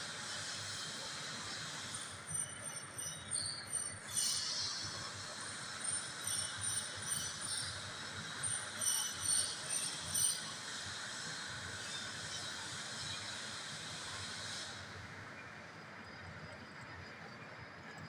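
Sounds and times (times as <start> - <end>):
lathe running with hiss: 0.0 - 17.2.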